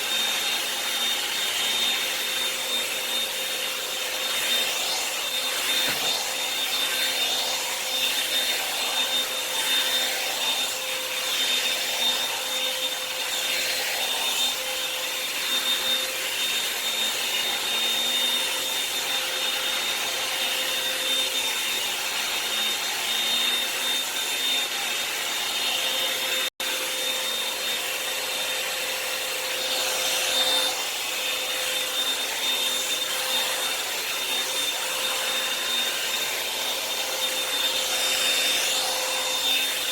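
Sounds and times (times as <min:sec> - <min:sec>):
hair dryer fan whining: 0:00.0 - 0:39.9.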